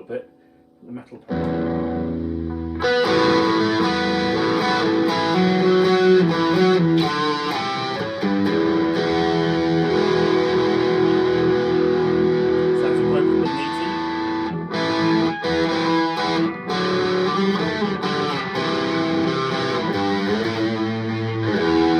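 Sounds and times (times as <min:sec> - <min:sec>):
distorted electric guitar riffing: 0:01.3 - 0:21.9.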